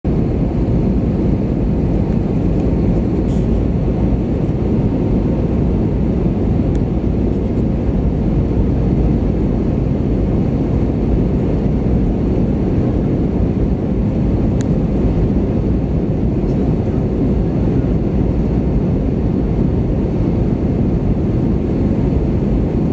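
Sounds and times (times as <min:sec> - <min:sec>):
airflow and jet engine rush: 0:00.0 - 0:22.9.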